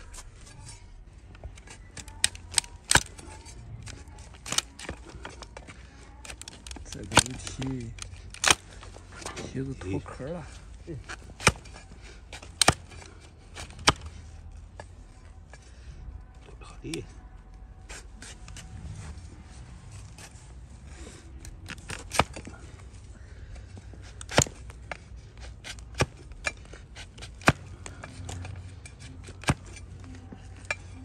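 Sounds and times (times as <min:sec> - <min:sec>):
hoof being snipped and cracked: 0:00.1 - 0:09.5, 0:10.5 - 0:14.9, 0:19.9 - 0:31.0.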